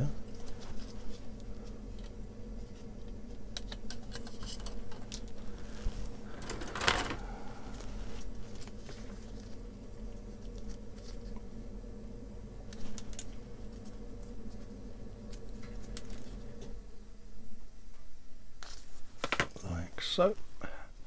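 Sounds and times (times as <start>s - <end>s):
boiler humming: 0.0s - 21.0s.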